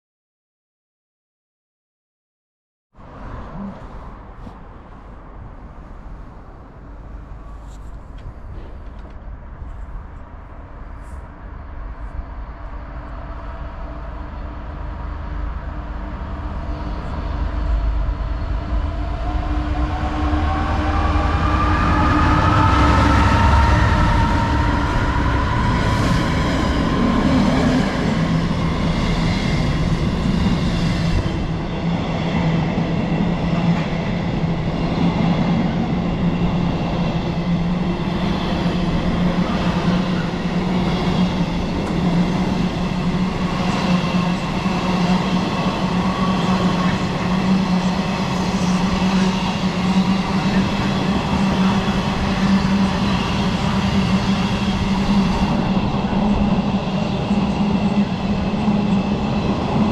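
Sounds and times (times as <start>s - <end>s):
train running: 3.0s - 59.9s.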